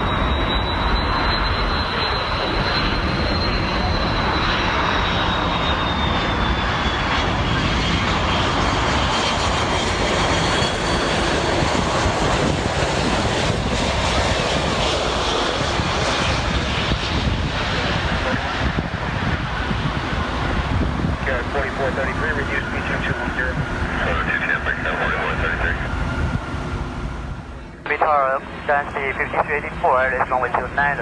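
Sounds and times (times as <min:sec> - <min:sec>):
high engine whine: 0:00.0 - 0:31.0
jet engines roaring: 0:00.0 - 0:31.0.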